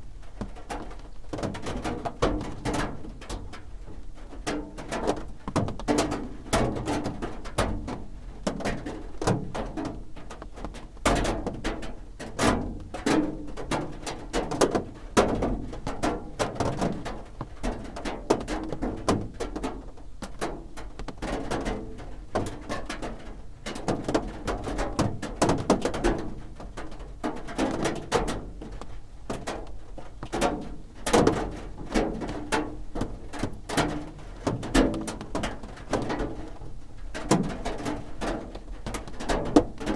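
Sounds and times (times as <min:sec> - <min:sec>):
rain drumming on a roof: 0:00.0 - 0:39.9.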